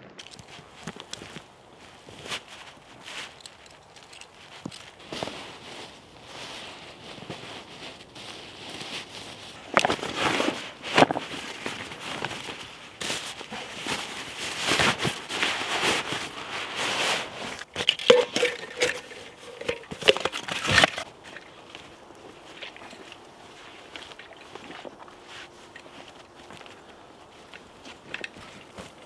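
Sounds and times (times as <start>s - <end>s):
fabric and bags rustling: 0.2s - 29.0s.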